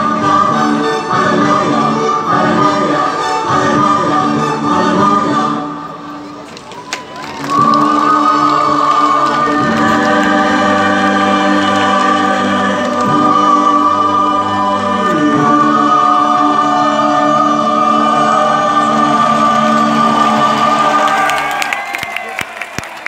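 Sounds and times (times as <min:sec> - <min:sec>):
voices singing: 0:00.0 - 0:06.2, 0:07.2 - 0:21.7.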